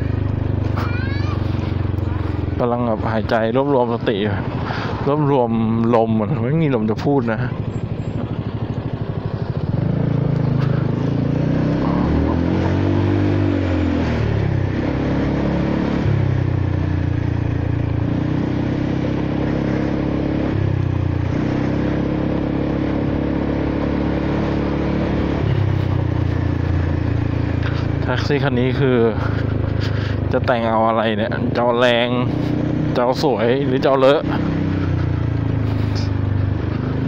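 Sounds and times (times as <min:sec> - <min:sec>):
scooter engine revving: 0:00.0 - 0:37.0.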